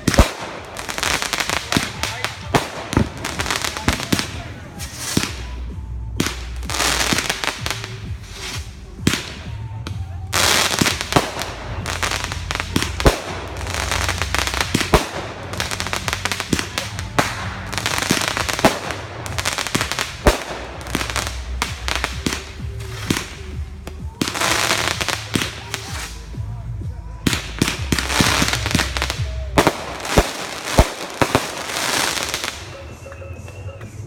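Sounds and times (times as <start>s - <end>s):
fireworks bangs: 0.0s - 34.0s
fireworks crackling: 0.0s - 34.0s.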